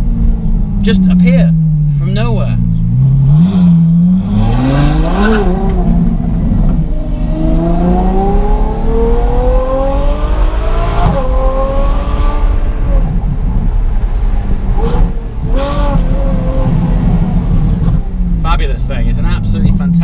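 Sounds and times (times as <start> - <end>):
car engine howling: 0.0 - 20.0.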